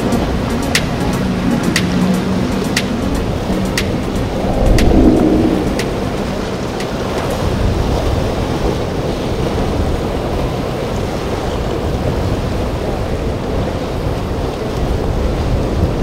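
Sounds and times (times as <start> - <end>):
waves and surf: 0.0 - 16.0
wind noise on microphone: 0.1 - 16.0.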